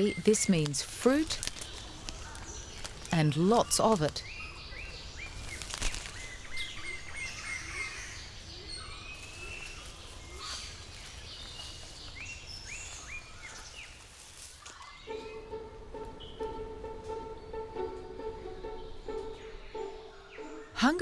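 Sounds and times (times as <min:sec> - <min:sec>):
birds calling in whistled notes: 0:00.0 - 0:21.0.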